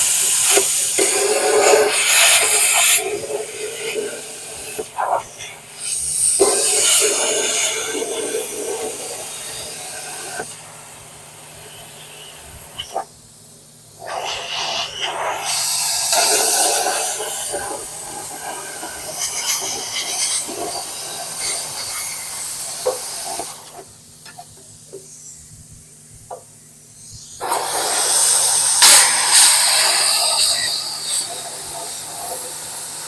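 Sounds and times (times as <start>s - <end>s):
power cutting tool hissing: 0.0s - 25.6s, 26.9s - 33.0s.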